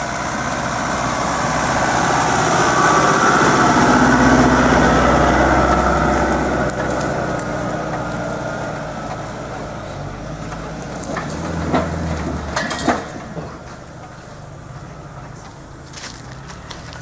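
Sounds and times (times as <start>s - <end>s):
vehicle engine climbing hill: 0.0s - 17.0s.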